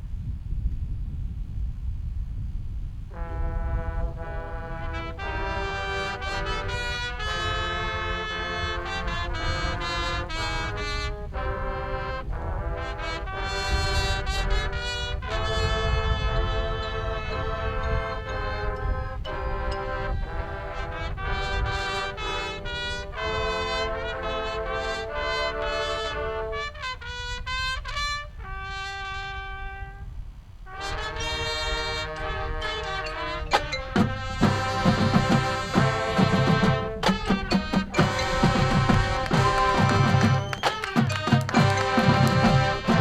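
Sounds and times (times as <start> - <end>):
brass playing melody: 3.1 - 30.1, 30.7 - 43.0.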